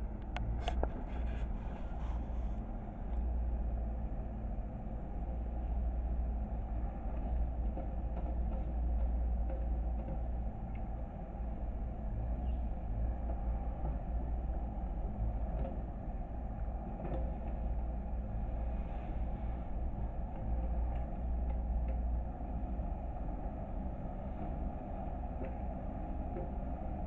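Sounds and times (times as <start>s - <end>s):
loader engine rumbling: 0.0s - 27.0s
faint clicks and knocks: 0.1s - 3.3s, 5.2s - 27.0s.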